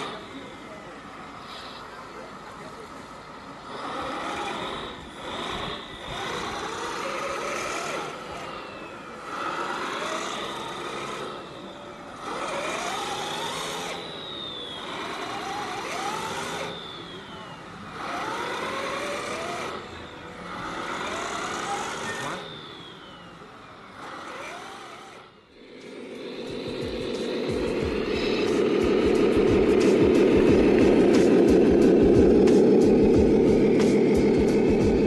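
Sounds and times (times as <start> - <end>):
toy truck electric motor whining: 0.0 - 35.0.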